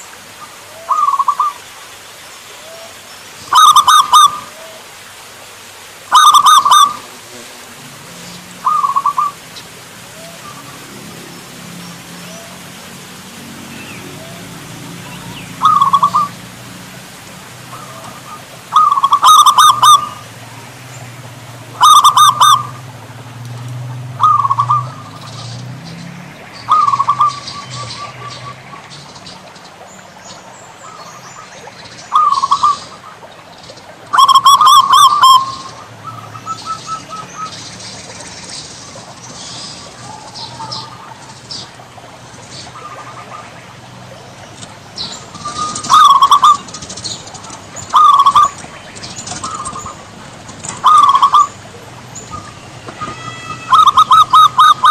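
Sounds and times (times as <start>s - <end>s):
dove cooing: 0.4s - 1.6s, 2.6s - 4.9s, 6.1s - 12.7s, 13.6s - 23.2s, 23.8s - 25.6s, 26.6s - 28.8s, 30.8s - 33.3s, 34.1s - 37.6s, 39.8s - 54.9s.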